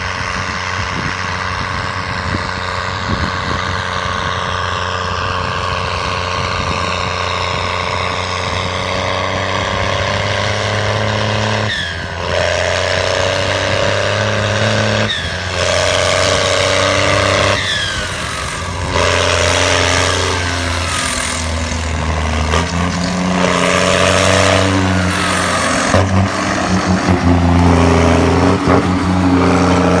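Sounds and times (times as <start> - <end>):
high engine whine: 0.0 - 30.0
tractor diesel engine running: 0.0 - 30.0.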